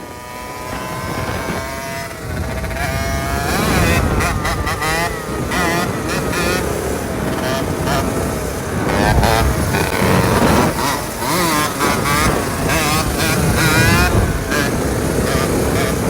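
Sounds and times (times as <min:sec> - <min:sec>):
small motorcycle engine revving: 0:00.0 - 0:16.0.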